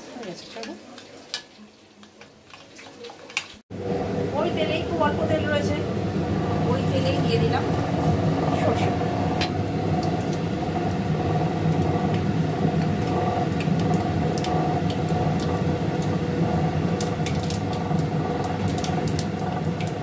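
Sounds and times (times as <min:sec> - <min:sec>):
hot oil crackling and popping: 0:00.2 - 0:20.0
steady hum: 0:03.7 - 0:20.0.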